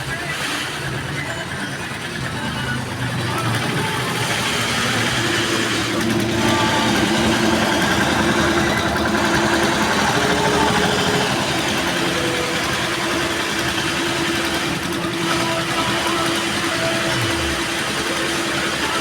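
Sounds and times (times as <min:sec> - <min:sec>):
embroidery machine stitching: 0:00.0 - 0:19.0.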